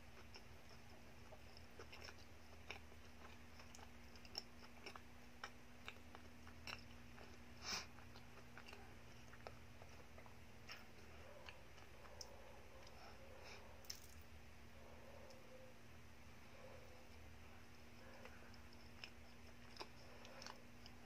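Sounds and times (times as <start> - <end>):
person chewing with wet clicks: 0.0 - 13.0, 13.8 - 14.2, 17.0 - 21.0
steady low hum: 0.0 - 21.0.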